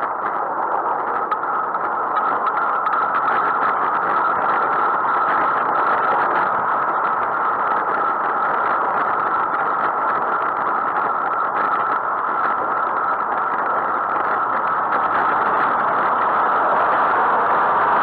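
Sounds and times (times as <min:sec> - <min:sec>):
motor traffic: 0:00.0 - 0:18.0
road noise: 0:00.0 - 0:18.0
wind on microphone: 0:00.0 - 0:18.0.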